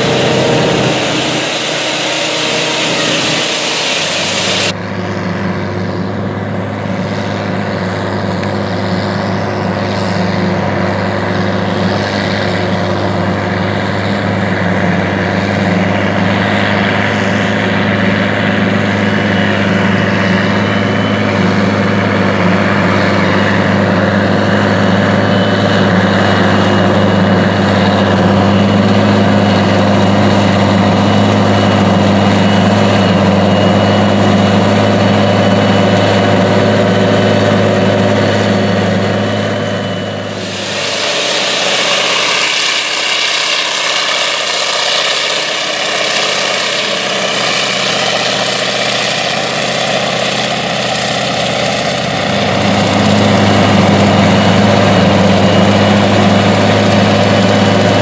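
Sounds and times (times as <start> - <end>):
hissing machine noise: 0.0 - 4.8, 9.8 - 58.0
harvester engine hum: 0.0 - 58.0.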